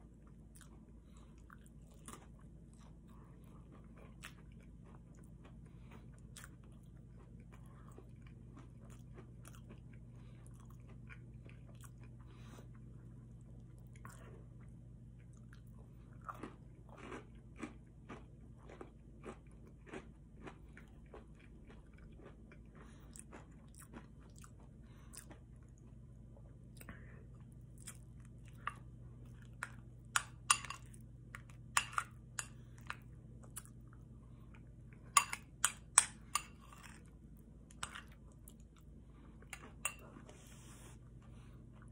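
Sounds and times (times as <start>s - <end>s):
chewing and crunching: 0.0s - 41.9s
steady low hum: 0.0s - 41.9s.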